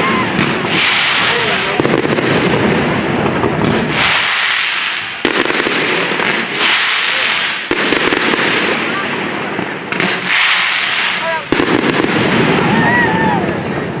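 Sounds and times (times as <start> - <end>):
fireworks hissing and crackling: 0.0 - 14.0
firework shells banging: 0.3 - 12.8.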